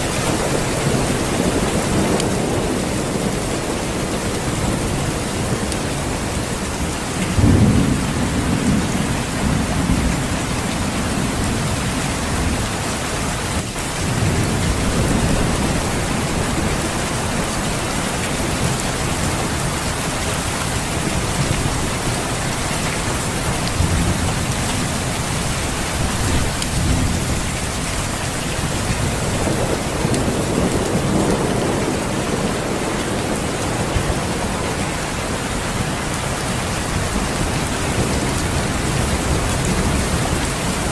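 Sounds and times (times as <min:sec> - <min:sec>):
heavy rain: 0:00.0 - 0:40.9
rolling thunder rumbles: 0:00.0 - 0:40.9.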